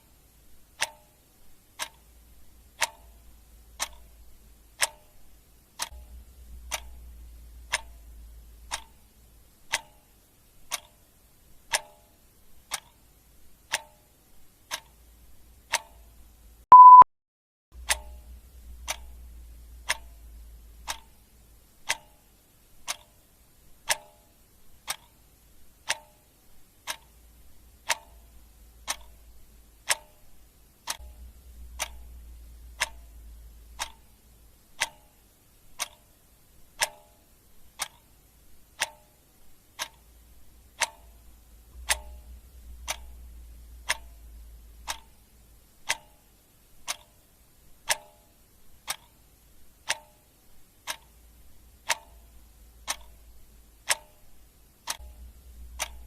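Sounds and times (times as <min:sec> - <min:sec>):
clock ticking: 0:00.0 - 0:17.0, 0:17.8 - 0:56.0.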